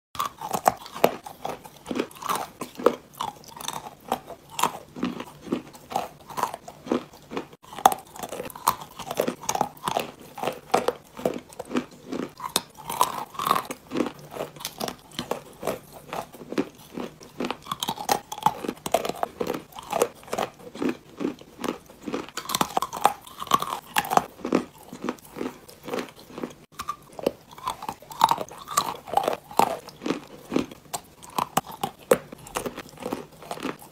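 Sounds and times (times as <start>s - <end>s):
clay being chewed with crunches: 0.2s - 33.9s.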